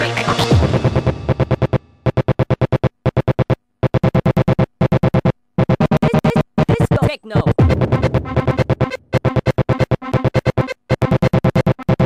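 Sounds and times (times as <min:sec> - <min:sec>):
techno music: 0:00.0 - 0:12.0
rapid chopped synth stabs: 0:00.2 - 0:12.0.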